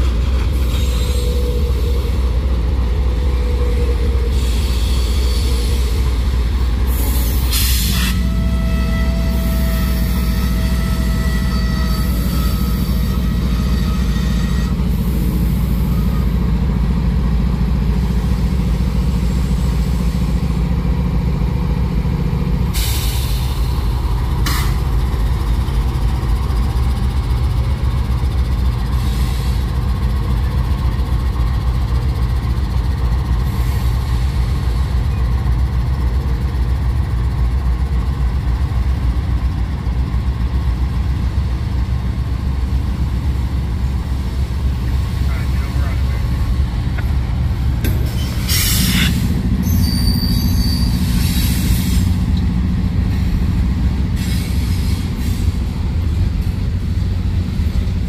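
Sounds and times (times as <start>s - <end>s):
diesel locomotive engine hum: 0.0s - 58.0s.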